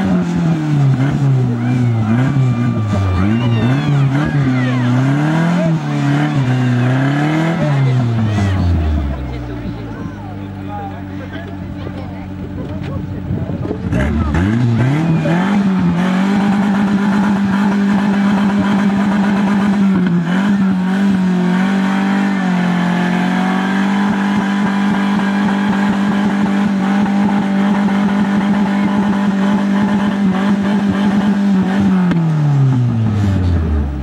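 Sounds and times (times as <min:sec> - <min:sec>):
engine revving high: 0:00.0 - 0:10.6, 0:13.6 - 0:34.0.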